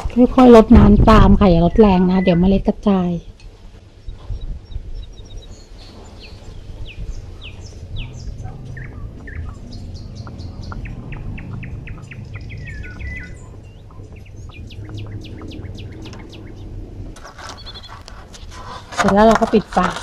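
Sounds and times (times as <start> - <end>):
low steady rumble: 0.0 - 18.9
small birds chirping: 0.2 - 20.0.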